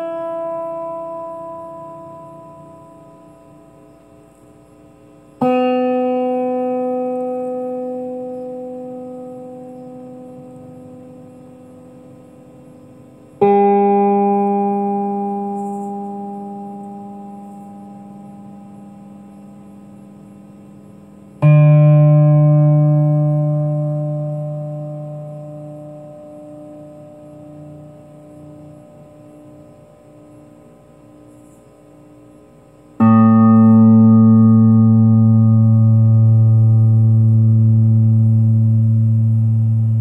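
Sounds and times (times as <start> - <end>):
electric guitar chords ringing: 0.0 - 40.0.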